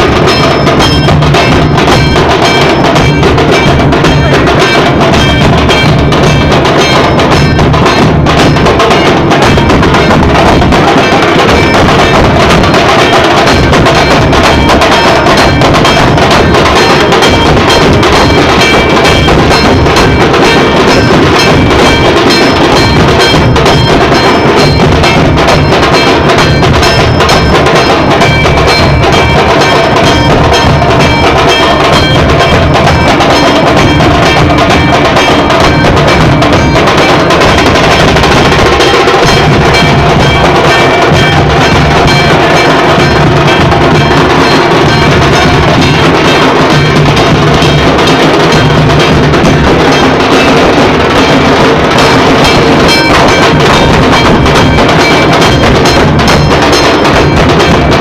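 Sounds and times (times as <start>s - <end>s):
fast continuous drumming: 0.0s - 58.0s.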